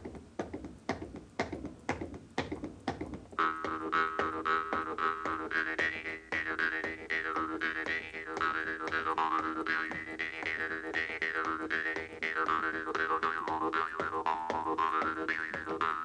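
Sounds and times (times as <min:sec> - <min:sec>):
shoe tapping on hard floor: 0:00.0 - 0:16.0
jaw harp twanging: 0:02.9 - 0:16.0.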